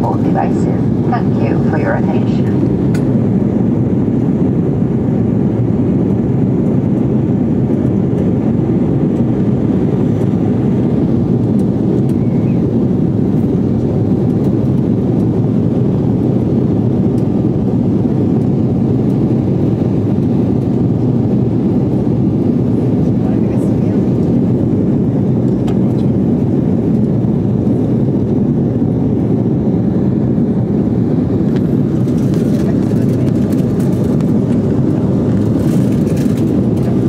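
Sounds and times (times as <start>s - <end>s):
jet engines low roar: 0.0s - 37.0s.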